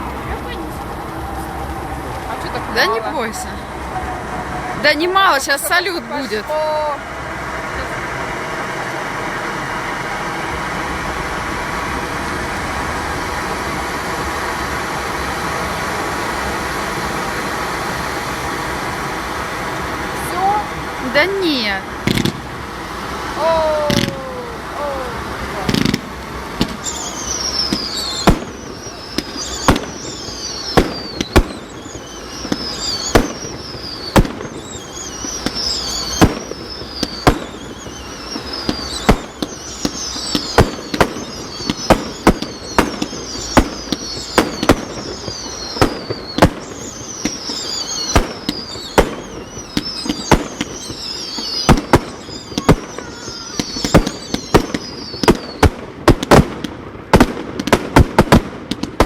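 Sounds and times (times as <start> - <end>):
falling fireworks whistles: 0.0 - 59.0
fireworks bangs: 0.0 - 59.0.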